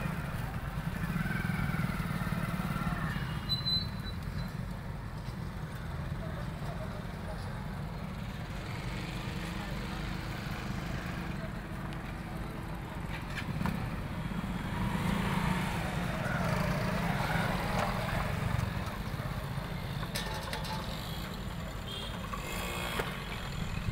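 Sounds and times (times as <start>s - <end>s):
motorcycle engines rumbling: 0.0s - 23.9s.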